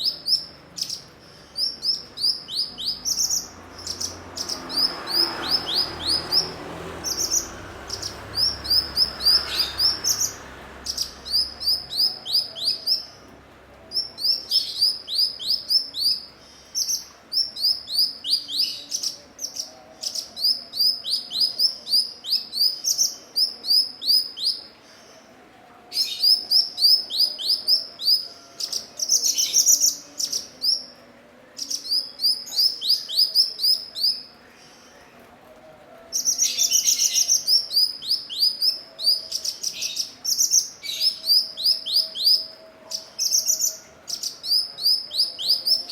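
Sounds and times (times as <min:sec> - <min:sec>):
bird chirping phrases: 0:00.0 - 0:45.9.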